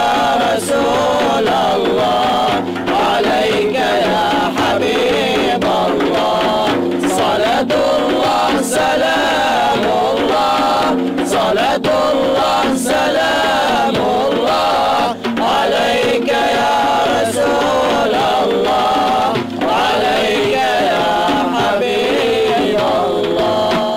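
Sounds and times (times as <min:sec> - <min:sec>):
frame drums: 0:00.0 - 0:23.9
male vocal group singing hymn: 0:00.0 - 0:23.9.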